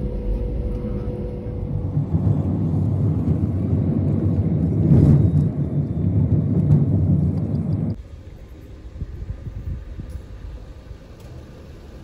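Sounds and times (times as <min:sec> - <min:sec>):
jet cabin low rumble: 0:00.0 - 0:12.0.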